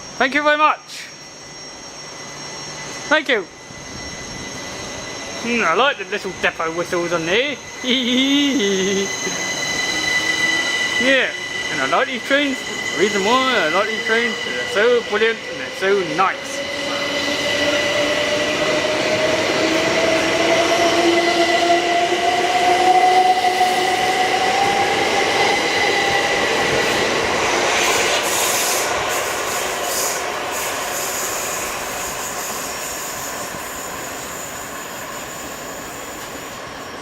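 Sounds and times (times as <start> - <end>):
electric train motors whining: 0.0 - 37.0
wheels squealing on rails: 0.0 - 37.0.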